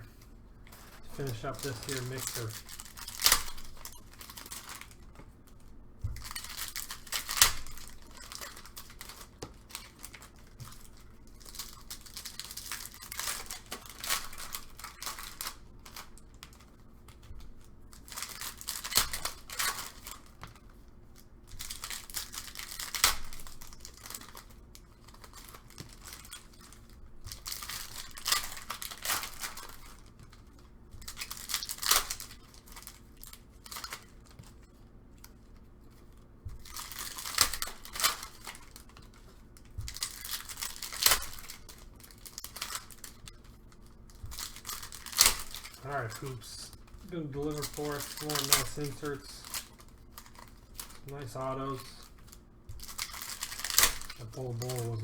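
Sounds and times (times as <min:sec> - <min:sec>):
plastic wrappers tearing and crinkling: 0:00.1 - 0:55.0.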